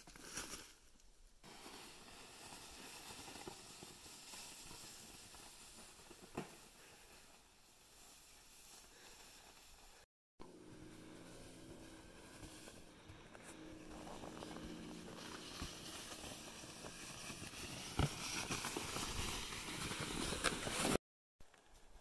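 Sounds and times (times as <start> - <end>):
faint outdoor hiss: 0.2 - 20.8.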